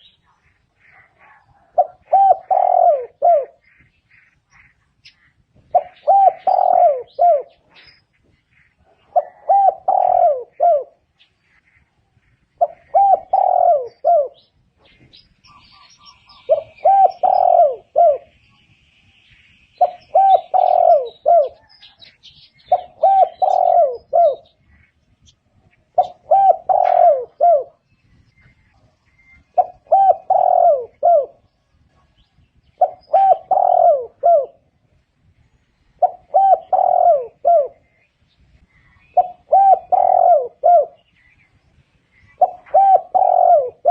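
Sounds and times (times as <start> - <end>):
dove cooing: 0.0 - 18.4, 19.8 - 24.9, 25.9 - 35.0, 36.0 - 41.4, 42.1 - 43.9.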